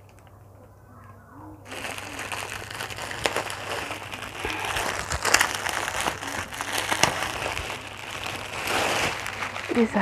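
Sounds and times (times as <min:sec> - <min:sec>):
bag and packaging rustling: 0:01.7 - 0:10.0.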